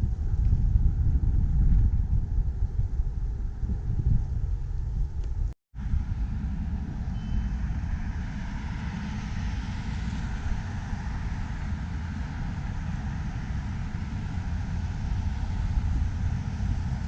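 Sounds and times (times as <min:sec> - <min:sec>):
moving vehicle rumble: 0:00.0 - 0:17.0.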